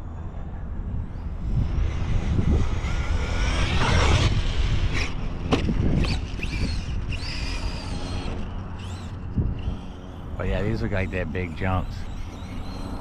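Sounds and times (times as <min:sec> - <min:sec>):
wind on microphone: 0:00.0 - 0:13.0
electric motor whining: 0:01.2 - 0:13.0.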